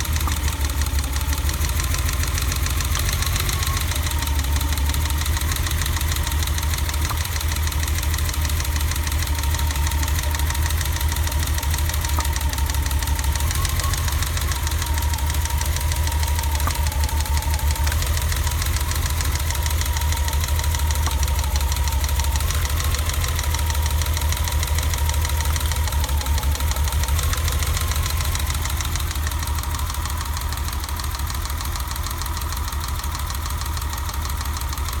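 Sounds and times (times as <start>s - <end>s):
car engine idling with misfire: 0.0s - 35.0s.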